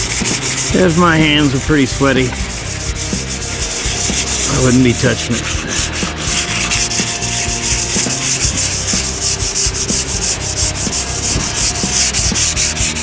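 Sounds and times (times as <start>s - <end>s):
hand sanding with sandpaper: 0.0s - 13.0s.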